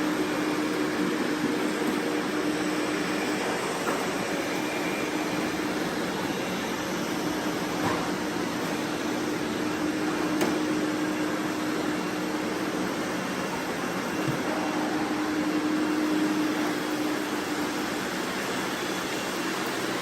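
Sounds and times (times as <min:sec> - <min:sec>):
robot vacuum whirring hum: 0:00.0 - 0:20.0.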